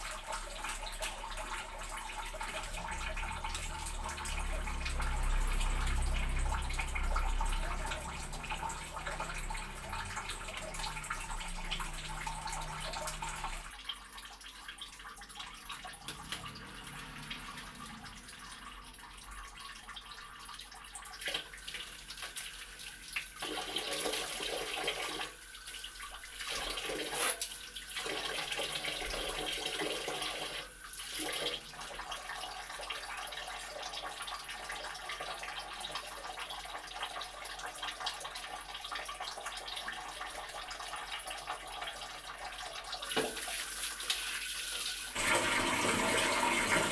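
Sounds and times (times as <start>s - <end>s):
water running and splashing: 0.0s - 46.9s.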